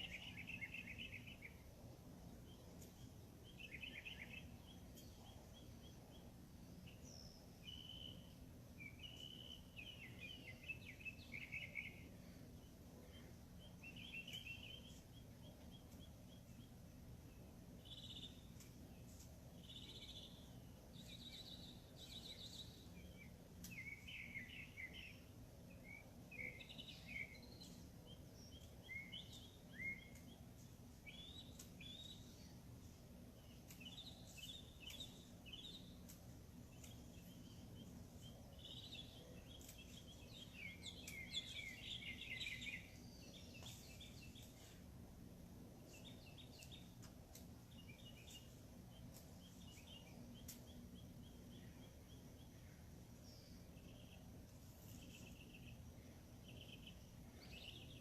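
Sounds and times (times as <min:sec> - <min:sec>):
birds chirping and trilling: 0:00.0 - 0:58.0
steady low hum: 0:00.0 - 0:58.0.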